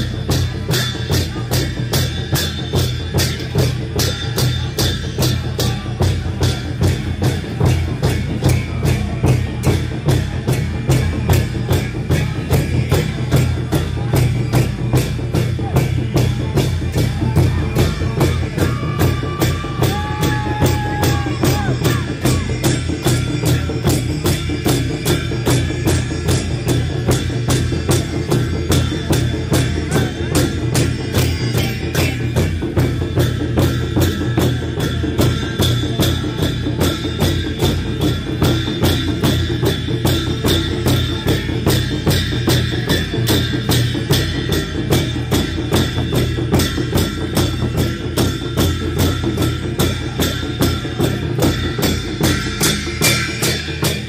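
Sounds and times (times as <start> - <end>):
barrel drum beating fast rhythm: 0.0 - 54.0
jingling metal percussion: 0.0 - 54.0.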